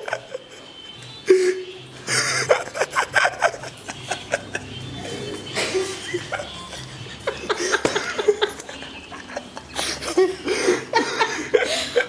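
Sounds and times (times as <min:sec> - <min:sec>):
people giggling and chuckling: 0:00.0 - 0:12.0.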